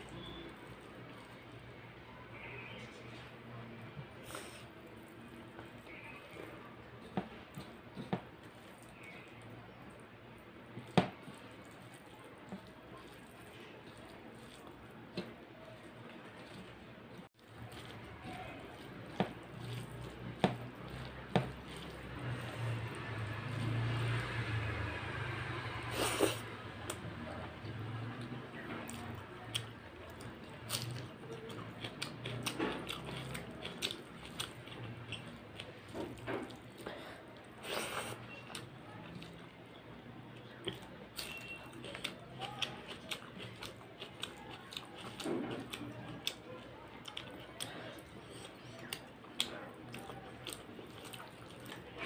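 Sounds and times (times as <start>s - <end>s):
chewing: 0.0s - 52.0s.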